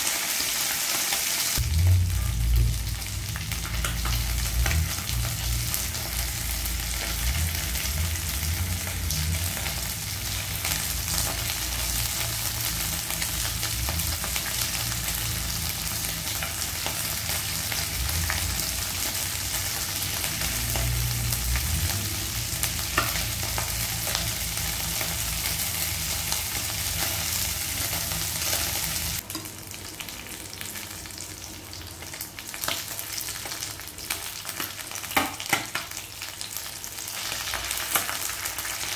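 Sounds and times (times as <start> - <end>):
fish sizzling in oil: 0.0 - 38.9.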